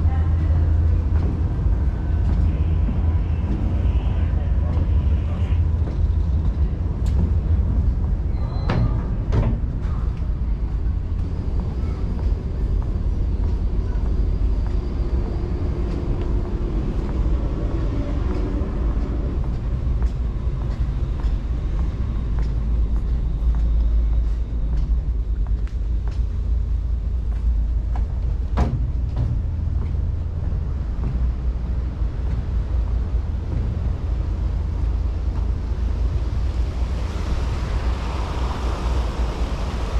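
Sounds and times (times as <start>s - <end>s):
ship engines rumbling: 0.0s - 39.9s.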